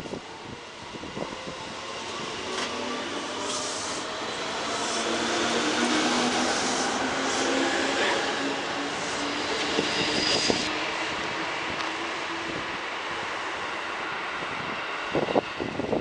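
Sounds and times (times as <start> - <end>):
electric train accelerating: 0.1 - 16.0.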